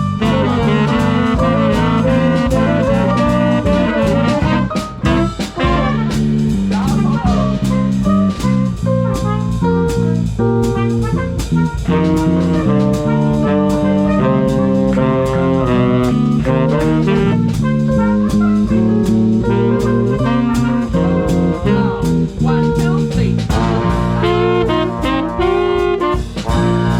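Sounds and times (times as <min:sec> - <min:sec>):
drum kit steady beat: 0:00.0 - 0:26.9
horns holding chords: 0:00.0 - 0:26.9.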